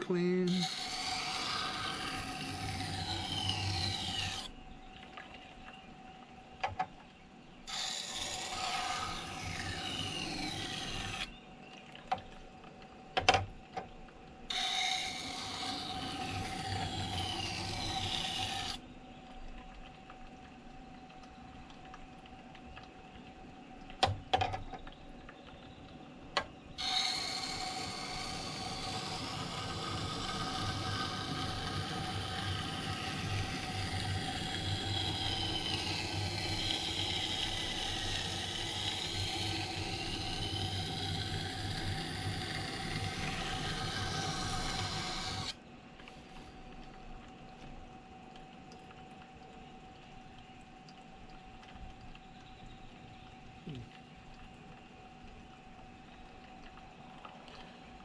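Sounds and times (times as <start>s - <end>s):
motor hum: 0.0s - 58.0s.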